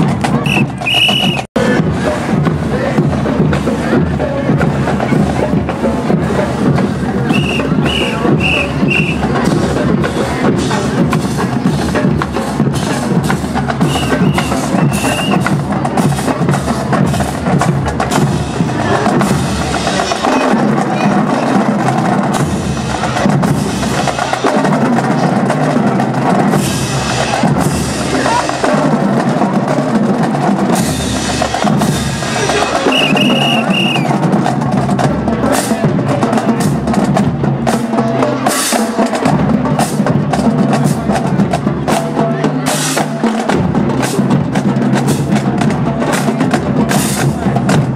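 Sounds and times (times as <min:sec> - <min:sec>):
marching snare and bass drums: 0:00.0 - 0:47.9.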